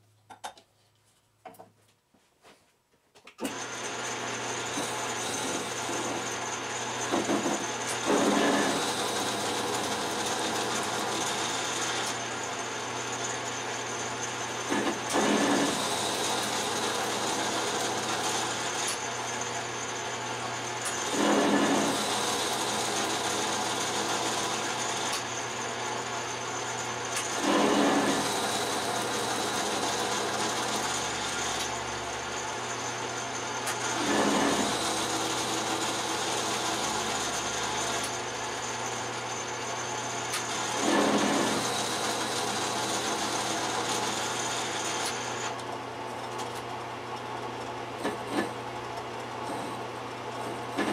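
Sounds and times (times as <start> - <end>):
metal lathe cutting steel: 3.5 - 45.6, 49.4 - 50.9.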